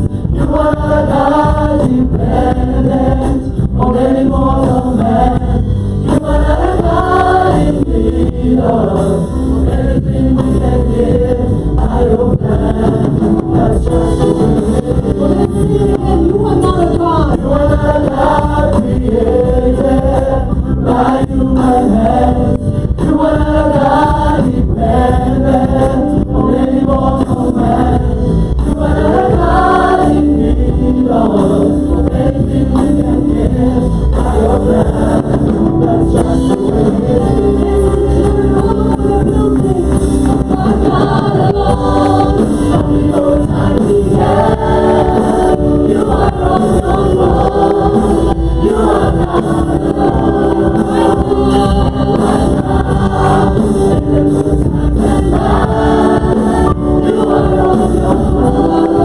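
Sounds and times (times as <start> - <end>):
gospel choir singing: 0.0 - 59.0
live band playing: 0.0 - 59.0.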